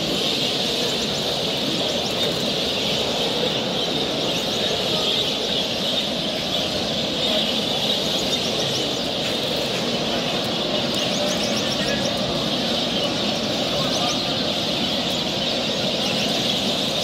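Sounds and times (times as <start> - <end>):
canaries and finches chirping: 0.0 - 17.0.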